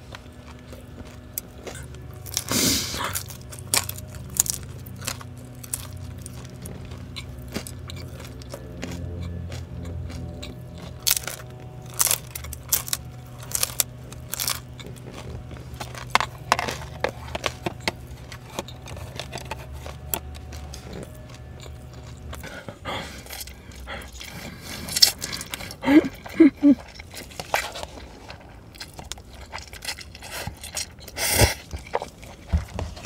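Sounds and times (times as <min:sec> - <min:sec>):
crunching fried dumpling: 0:00.0 - 0:33.0
steady low hum: 0:00.0 - 0:33.0.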